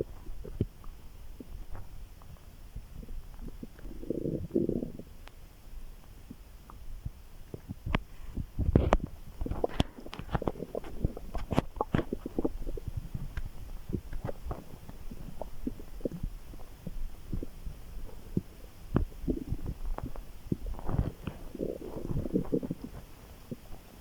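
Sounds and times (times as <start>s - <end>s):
stomach gurgling and rumbling: 0.0s - 24.0s.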